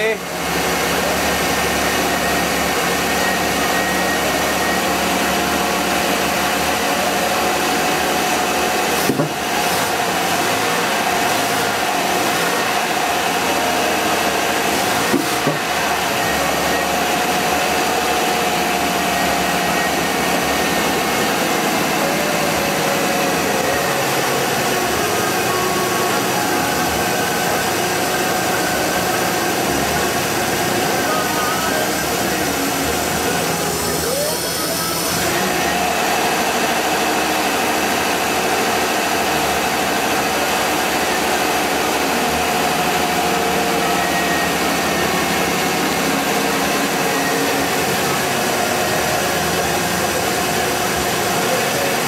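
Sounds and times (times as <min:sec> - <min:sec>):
van engine idling: 0:00.0 - 0:52.0.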